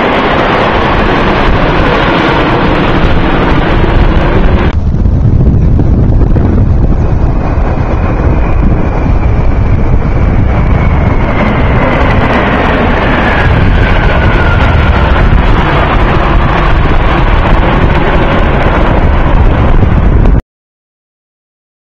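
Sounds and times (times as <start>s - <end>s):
military jets passing overhead: 0.0s - 20.4s.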